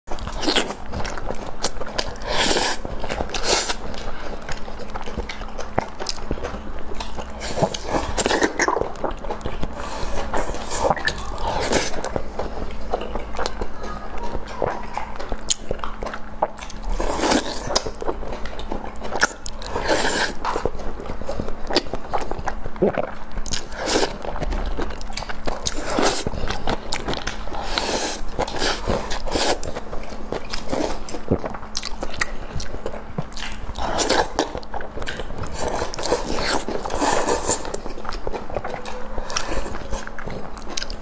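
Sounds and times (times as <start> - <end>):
chewing and biting: 0.1 - 41.0
faint steady hum: 0.1 - 41.0.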